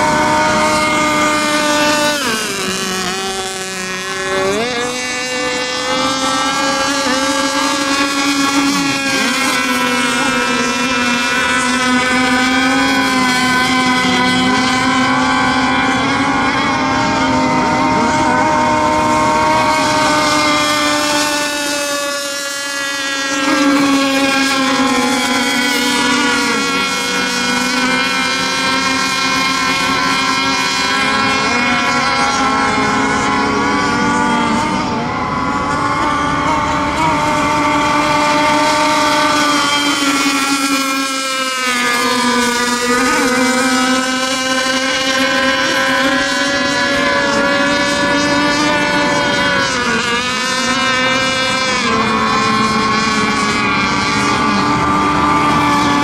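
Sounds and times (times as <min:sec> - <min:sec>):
racing boat engines: 0:00.0 - 0:56.0.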